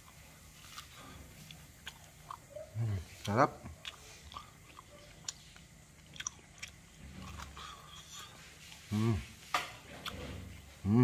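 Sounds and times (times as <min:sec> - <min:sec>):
person chewing corn on the cob: 0:00.0 - 0:09.2, 0:09.8 - 0:10.9.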